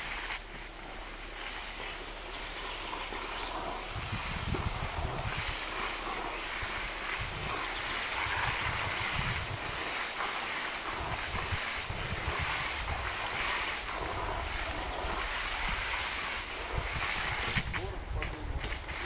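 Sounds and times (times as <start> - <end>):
steady high hiss: 0.0 - 19.0
wind buffeting microphone: 0.0 - 19.0.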